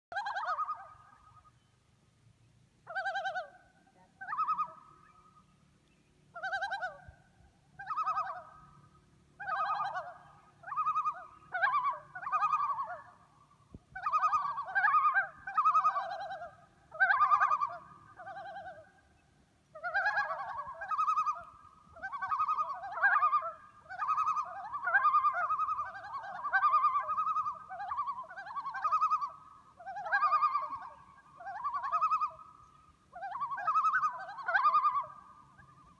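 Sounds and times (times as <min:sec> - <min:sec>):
loons calling: 0:00.1 - 0:01.8, 0:02.8 - 0:35.9.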